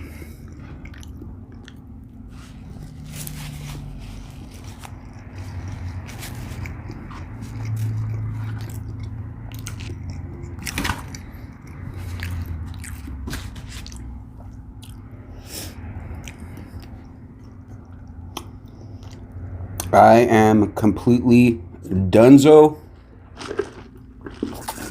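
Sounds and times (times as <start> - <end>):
chewing and biting food: 0.0 - 15.2, 16.0 - 19.9, 22.9 - 24.9
steady low hum: 0.0 - 24.9.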